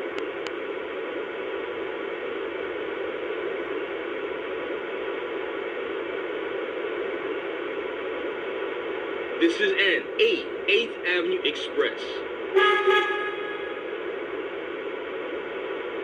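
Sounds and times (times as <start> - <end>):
speaker hum and hiss: 0.0 - 16.0.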